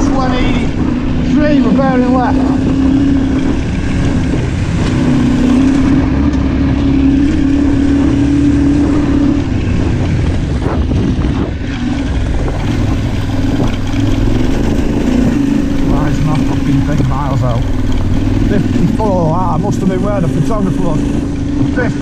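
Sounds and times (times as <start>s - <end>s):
motorcycle engine under load: 0.0s - 22.0s
road and wind noise: 0.0s - 22.0s.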